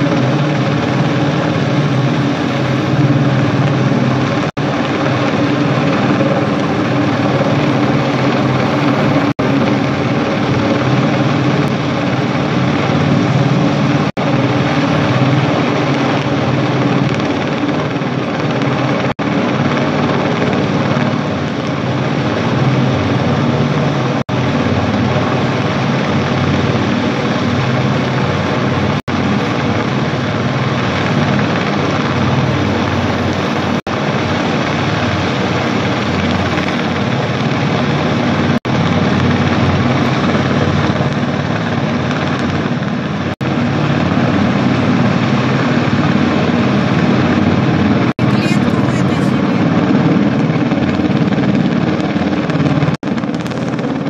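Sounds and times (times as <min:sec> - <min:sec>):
helicopter hovering: 0:00.0 - 0:54.0.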